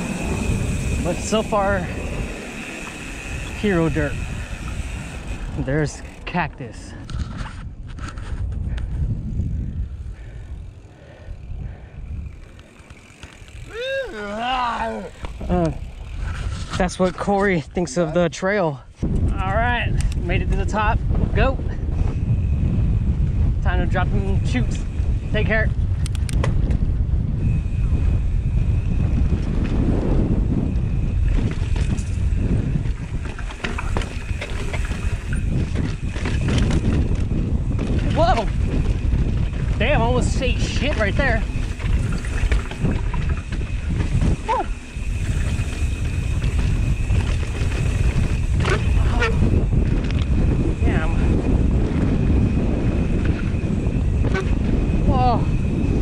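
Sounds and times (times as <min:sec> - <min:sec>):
bike clicks and rattles: 0:00.0 - 0:17.7, 0:18.9 - 0:56.0
wind buffeting microphone: 0:00.0 - 0:56.0.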